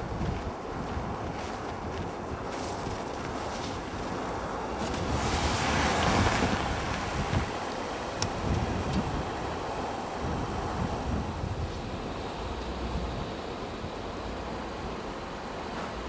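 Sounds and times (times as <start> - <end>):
car engine rumble: 0.0 - 16.0
tyres churning through snow: 0.0 - 16.0.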